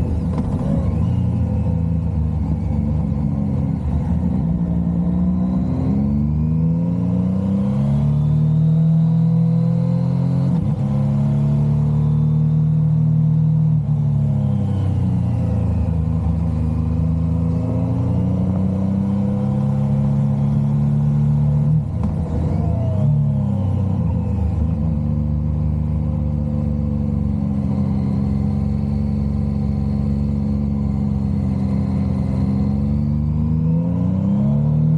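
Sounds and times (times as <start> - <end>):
motorcycle engine shifting gears: 0.0 - 9.3, 10.1 - 34.9.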